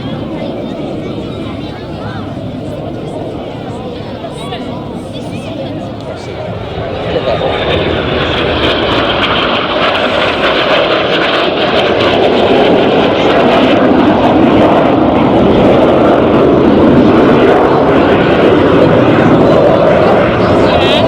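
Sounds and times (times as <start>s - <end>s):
aircraft engine flying past: 0.0s - 21.0s.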